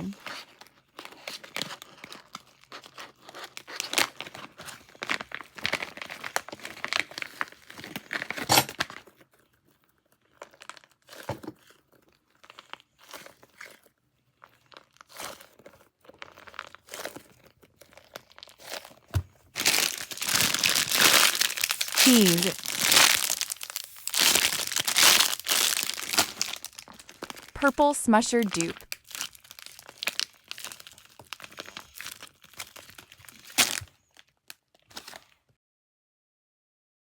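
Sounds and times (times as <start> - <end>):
squishy toy crackling and crunching: 0.1 - 35.4.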